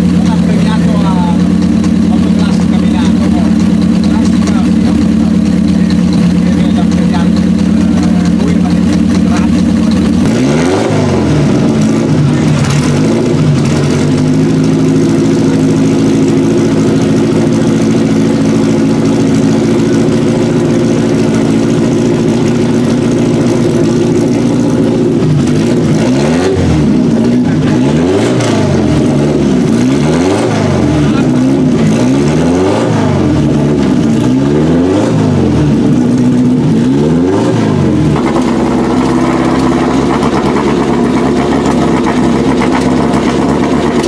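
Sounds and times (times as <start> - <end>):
car engine idling and revving: 0.0 - 44.0.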